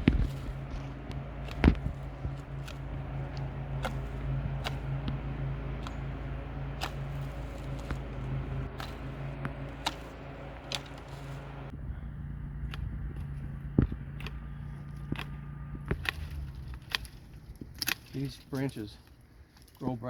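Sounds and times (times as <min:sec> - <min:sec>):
low motor hum: 0:00.0 - 0:19.8.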